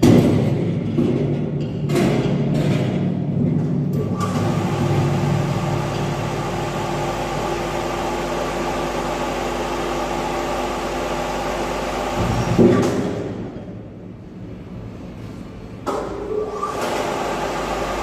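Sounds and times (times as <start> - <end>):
machine hum: 3.3 - 18.0.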